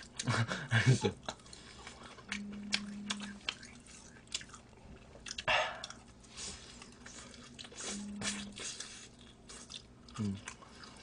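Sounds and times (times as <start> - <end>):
chewing and biting fried chicken: 1.1 - 11.0.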